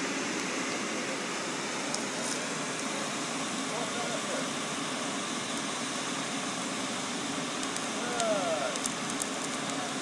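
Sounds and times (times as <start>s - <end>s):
furnace roaring: 0.0s - 10.0s.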